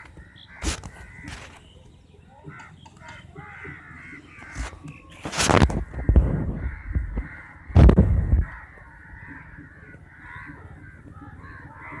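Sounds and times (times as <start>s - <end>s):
crows cawing: 0.0s - 1.7s, 2.4s - 12.0s.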